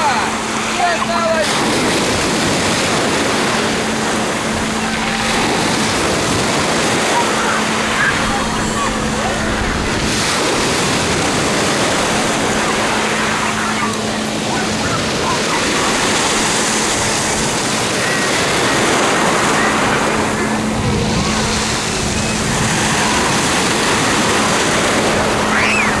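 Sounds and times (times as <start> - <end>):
distant voices and shouts: 0.0 - 26.0
waves breaking on pebble shore: 0.0 - 26.0.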